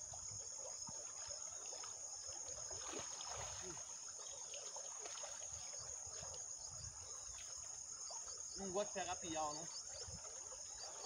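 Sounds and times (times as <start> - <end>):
crickets chirring: 0.0 - 11.0
water splashing and trickling: 0.0 - 11.0.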